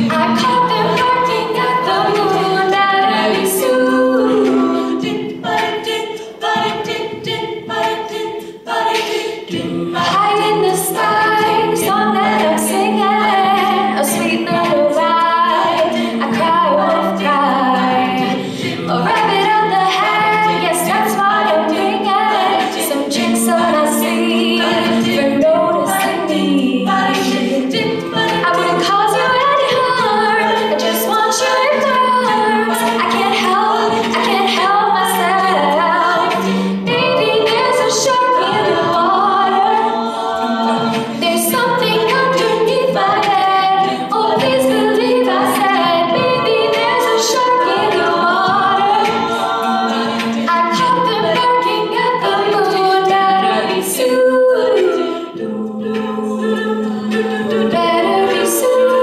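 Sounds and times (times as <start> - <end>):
women singing a cappella: 0.0 - 59.0.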